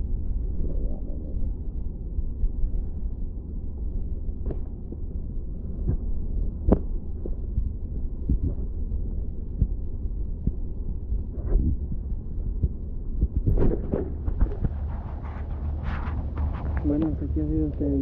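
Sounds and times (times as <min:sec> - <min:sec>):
underwater rumble of moving water: 0:00.0 - 0:18.0.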